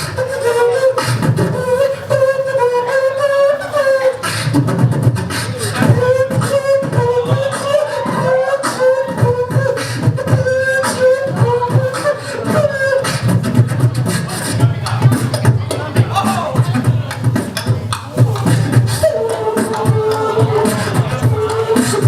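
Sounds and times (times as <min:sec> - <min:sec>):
hip-hop beat: 0:00.0 - 0:22.0.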